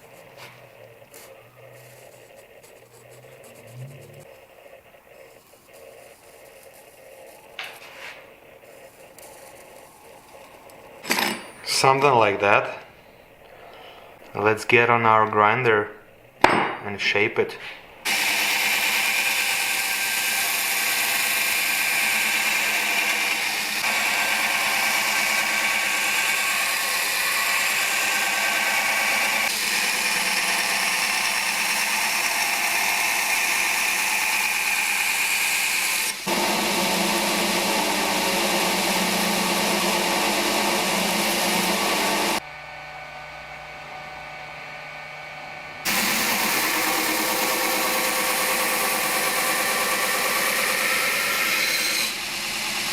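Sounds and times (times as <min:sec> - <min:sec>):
electric grinder grinding steel: 0:00.0 - 0:12.5, 0:18.0 - 0:42.4, 0:45.8 - 0:52.9.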